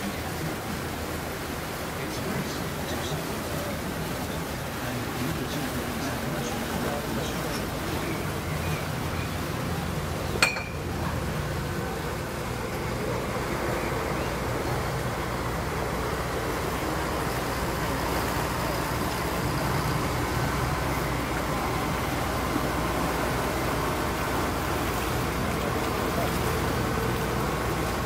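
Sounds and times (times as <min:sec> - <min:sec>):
boat engine droning: 0:00.0 - 0:28.0
water wash noise: 0:00.0 - 0:28.0.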